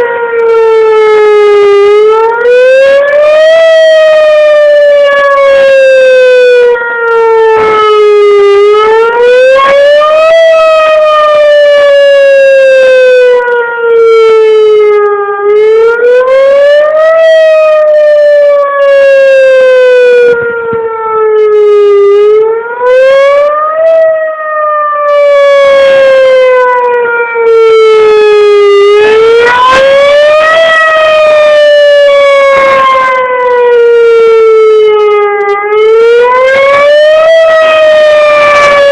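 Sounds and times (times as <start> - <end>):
warning siren wavering: 0.0 - 38.9.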